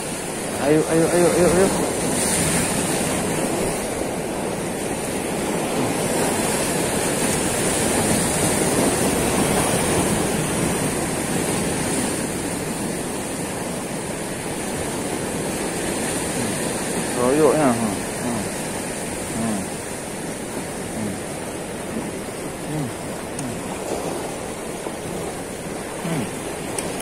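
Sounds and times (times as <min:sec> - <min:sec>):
sea surf washing over rocks: 0:00.0 - 0:27.0.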